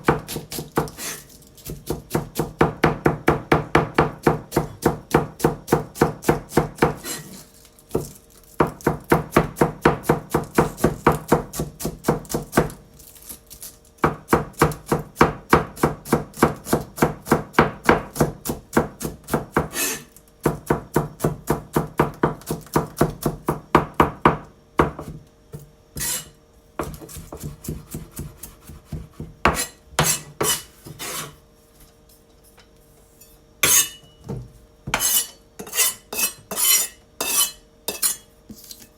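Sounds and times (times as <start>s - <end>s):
knife chopping cabbage on board: 0.0s - 31.4s, 33.6s - 38.9s.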